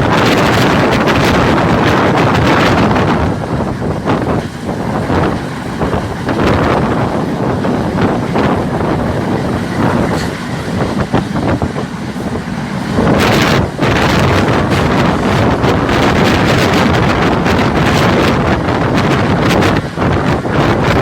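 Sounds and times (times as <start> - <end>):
moving train: 0.0 - 21.0
wind buffeting microphone: 0.0 - 21.0.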